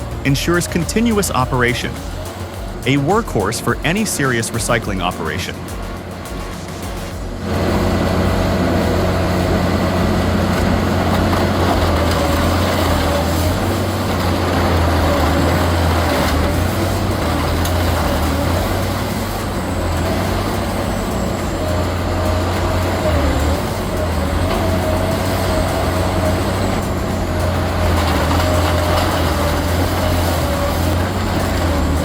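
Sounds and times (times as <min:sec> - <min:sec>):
industrial shredder engine drone: 0:00.0 - 0:32.0.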